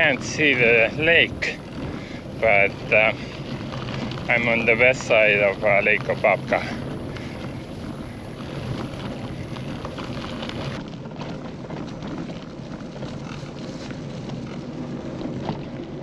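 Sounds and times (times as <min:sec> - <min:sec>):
tyres crunching on gravel: 0:00.0 - 0:16.0.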